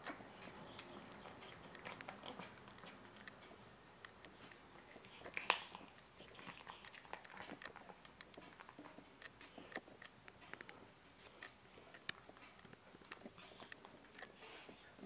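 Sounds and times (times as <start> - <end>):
cat chewing food: 0.0 - 15.0
mouth clicks: 0.0 - 15.0.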